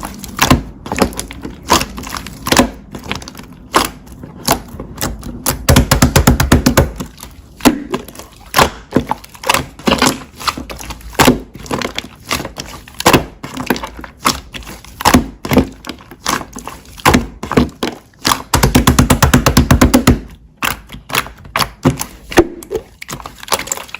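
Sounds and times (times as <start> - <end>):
slime squishing with crackling clicks: 0.0 - 23.9.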